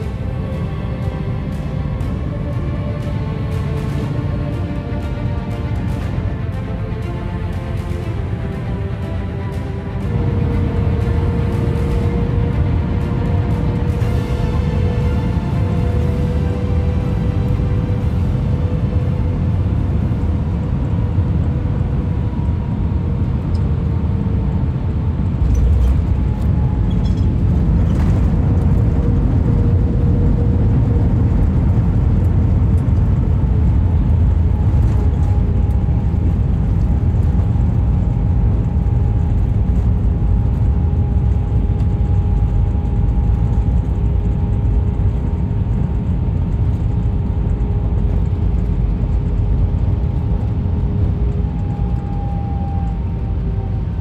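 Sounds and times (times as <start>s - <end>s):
faint steady engine tones: 0.0s - 54.0s
jet engine hum in cabin: 0.0s - 54.0s.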